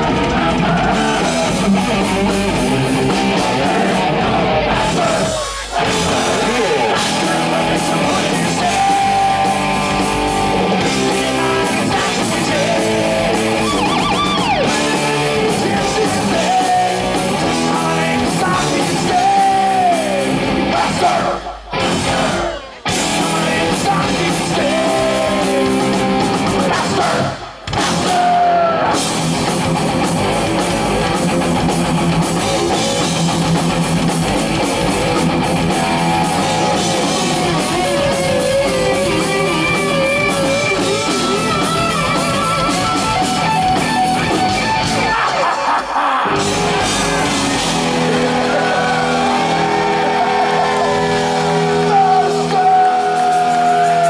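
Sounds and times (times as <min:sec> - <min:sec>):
person singing: 0:00.0 - 0:29.0, 0:35.6 - 0:54.0
heavy metal band playing: 0:00.0 - 0:54.0.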